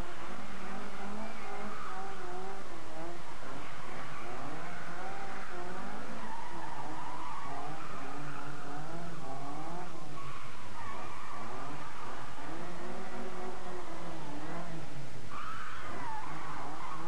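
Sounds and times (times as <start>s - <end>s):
car engine revving hard: 0.0s - 17.0s
tyres skidding and squealing: 0.0s - 17.0s.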